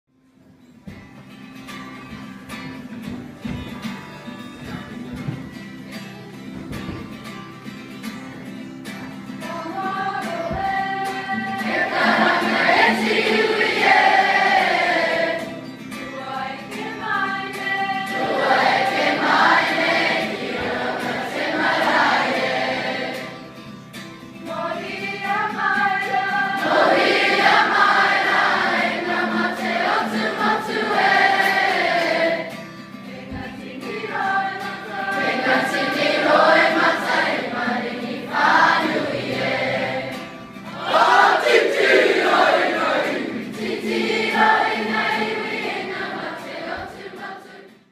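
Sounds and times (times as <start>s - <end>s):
choir singing with musical backing: 2.0s - 47.9s.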